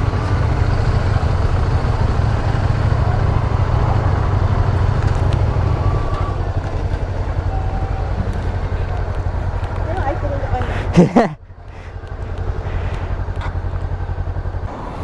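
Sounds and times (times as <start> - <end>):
motorcycle engine rumble: 0.0 - 15.0.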